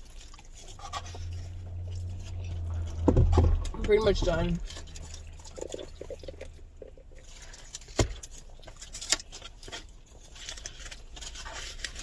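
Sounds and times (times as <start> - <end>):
close chewing and mouth sounds: 0.0 - 12.0.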